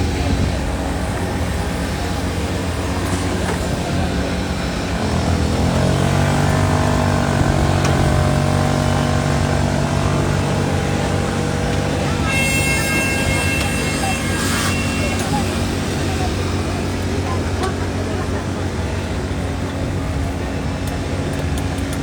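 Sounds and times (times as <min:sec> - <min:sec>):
pit-lane noise: 0:00.0 - 0:22.0
racing motorcycle engine: 0:00.0 - 0:22.0.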